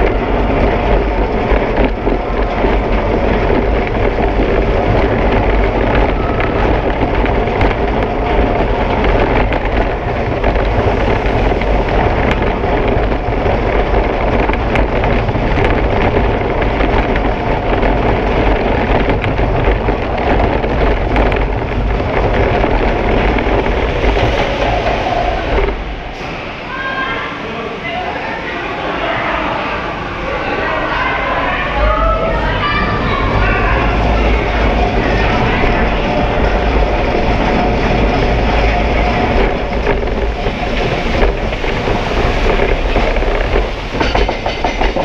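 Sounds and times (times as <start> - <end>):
roller coaster rumbling on track: 0.0 - 45.0.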